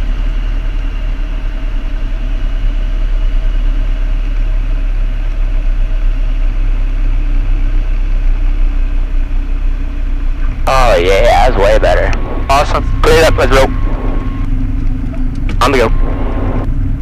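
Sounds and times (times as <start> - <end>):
aircraft engine and propeller drone: 0.0 - 17.0.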